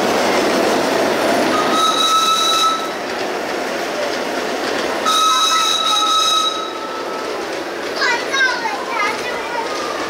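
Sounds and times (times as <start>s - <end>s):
miniature train running on track: 0.0s - 10.0s.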